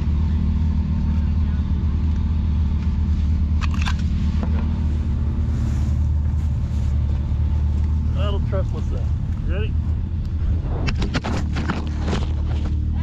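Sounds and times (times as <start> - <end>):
utility vehicle engine rumble: 0.0 - 13.0.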